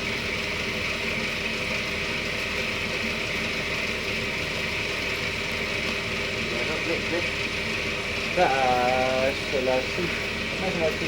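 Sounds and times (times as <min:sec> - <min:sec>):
cotton candy machine humming: 0:00.0 - 0:11.0.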